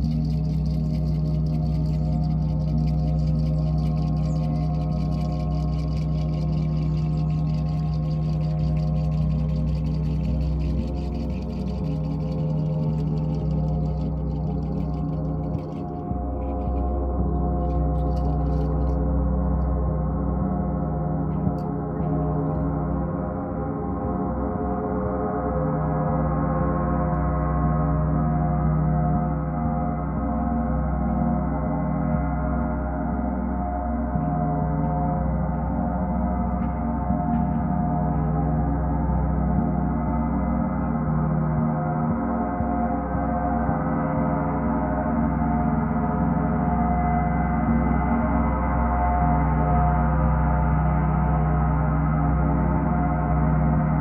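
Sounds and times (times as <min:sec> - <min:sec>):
gong ringing over deep hum: 0:00.0 - 0:54.0.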